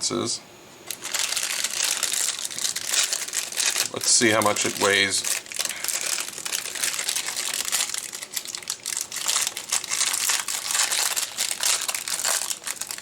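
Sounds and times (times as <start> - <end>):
plastic wrapper crinkling: 0.8 - 13.0.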